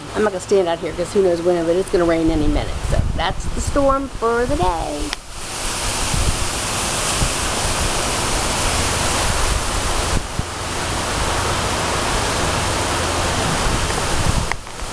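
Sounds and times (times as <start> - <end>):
gusty wind buffeting microphone: 0.0 - 14.9.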